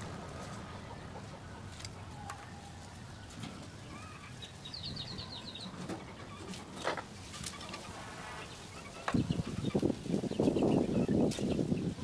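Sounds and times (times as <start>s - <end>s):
birds chirping faintly: 0.4s - 12.0s.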